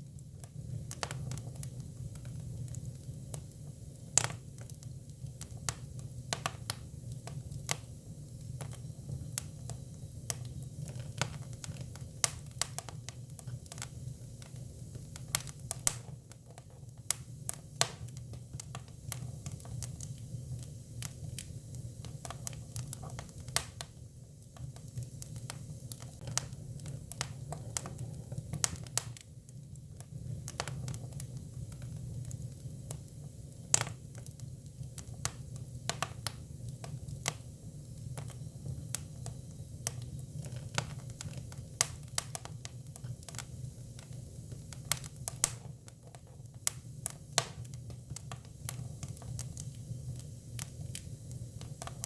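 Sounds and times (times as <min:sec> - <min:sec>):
firewood crackling and popping: 0:00.0 - 0:52.0.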